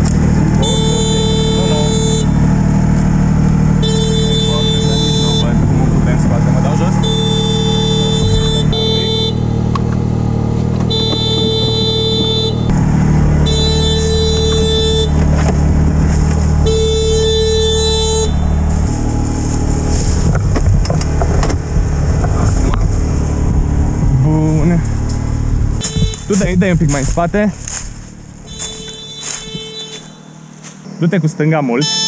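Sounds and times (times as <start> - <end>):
horn blasts: 0.0 - 23.6, 24.6 - 30.9, 31.6 - 32.0
engine running steadily: 0.0 - 32.0.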